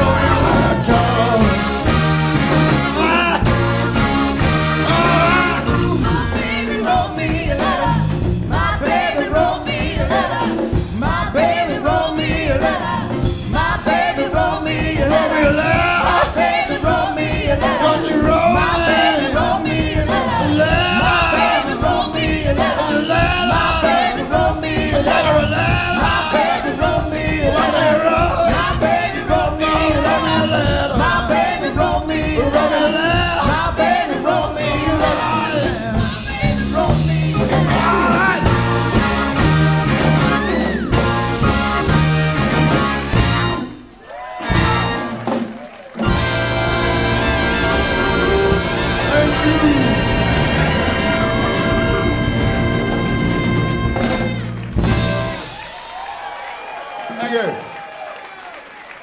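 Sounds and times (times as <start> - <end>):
horn section: 0.0 - 8.0, 14.4 - 31.6, 32.4 - 56.1
group of voices singing: 0.0 - 45.2, 46.0 - 55.4
live rock soul band playing: 0.0 - 55.9.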